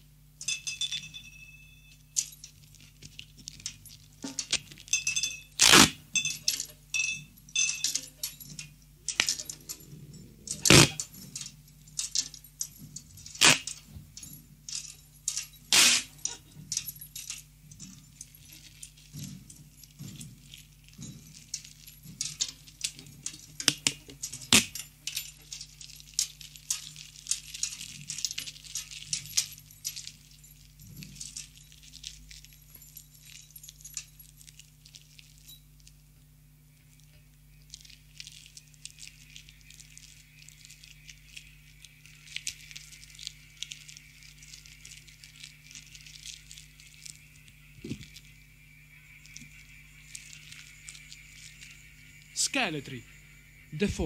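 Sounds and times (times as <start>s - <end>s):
steady low hum: 0.0s - 54.0s
dense high crackle: 1.8s - 54.0s.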